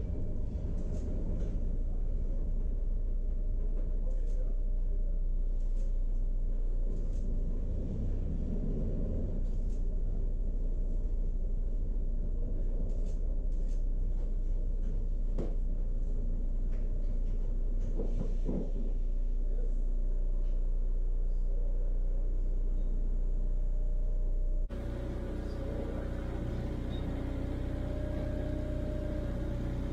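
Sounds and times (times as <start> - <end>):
tram rumble and hum: 0.0 - 29.9.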